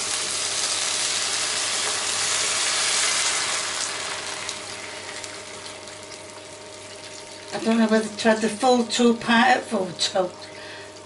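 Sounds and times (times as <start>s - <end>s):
liquid sizzling in a hot pan: 0.0s - 8.9s.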